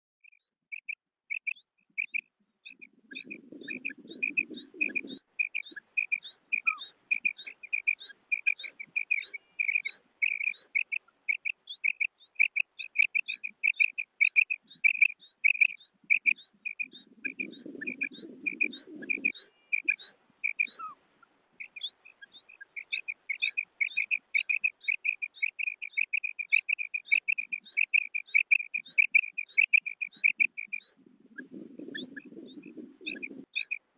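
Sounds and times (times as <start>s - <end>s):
quail calling: 0.2s - 33.9s.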